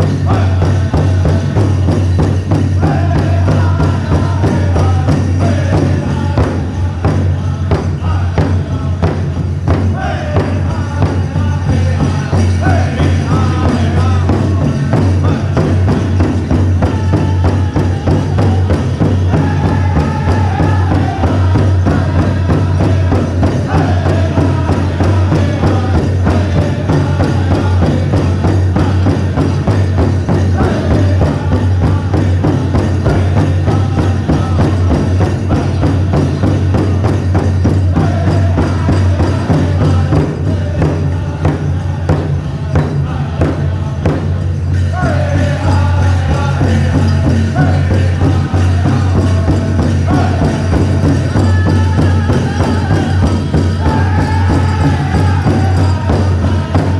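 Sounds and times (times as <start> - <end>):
bells jingling: 0.0 - 56.9
big drum beat: 0.0 - 56.9
group singing: 0.0 - 56.9.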